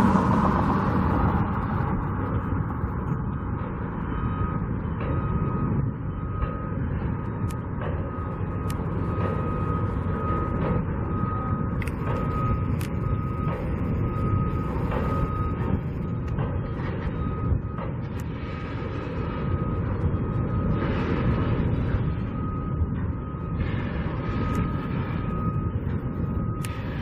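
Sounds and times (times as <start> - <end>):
heavy machinery rumble: 0.0 - 27.0
reversing alarm beeps: 0.0 - 27.0.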